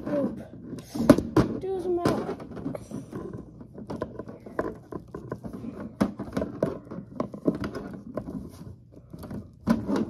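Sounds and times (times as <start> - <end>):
plastic toy figures tapping and clattering: 0.0 - 10.0.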